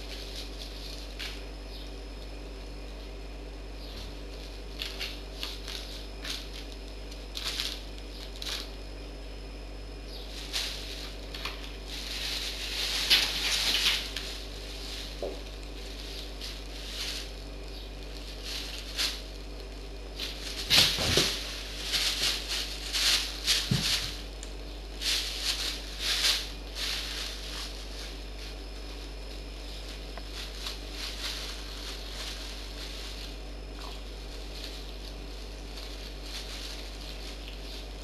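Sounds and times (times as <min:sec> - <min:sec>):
plastic bag rustling and crinkling: 0:00.0 - 0:01.8, 0:03.8 - 0:09.2, 0:10.0 - 0:38.0.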